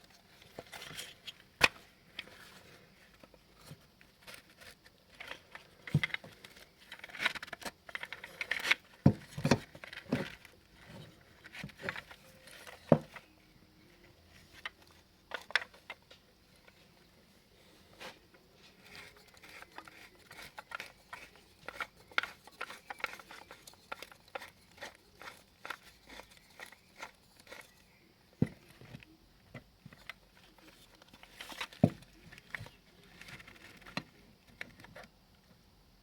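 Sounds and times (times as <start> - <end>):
plastic clicks and rustles: 0.0 - 13.4, 14.5 - 16.8, 18.3 - 35.1.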